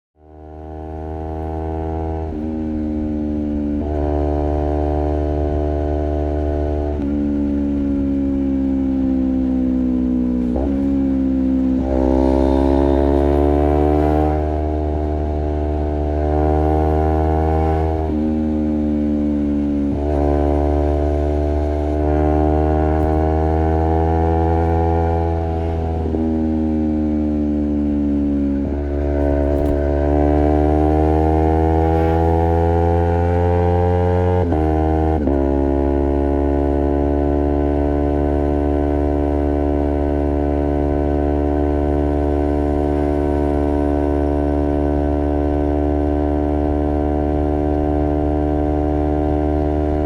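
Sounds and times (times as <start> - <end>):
motorcycle engine revving: 0.2 - 50.0.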